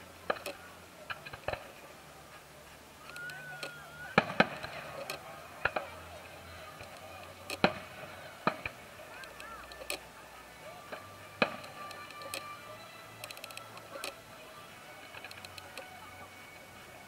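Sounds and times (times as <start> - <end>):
fireworks bursting with bangs: 0.0 - 16.0.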